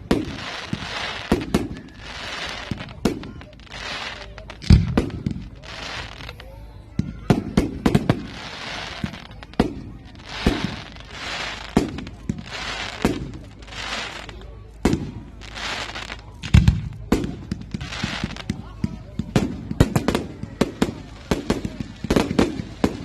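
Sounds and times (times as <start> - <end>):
firework bangs: 0.0 - 23.0
hissing fizz of firework shells: 0.0 - 23.0.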